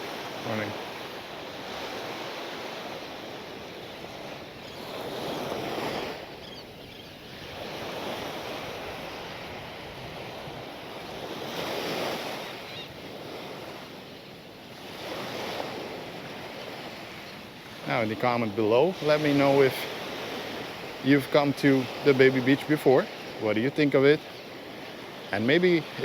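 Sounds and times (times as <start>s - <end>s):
small waves washing onto sand: 0.0s - 26.0s.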